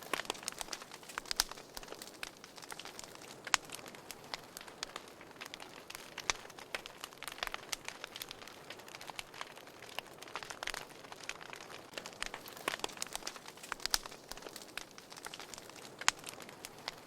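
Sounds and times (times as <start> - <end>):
soft hiss of fire: 0.0 - 17.0
wood fire popping and snapping: 0.0 - 17.0.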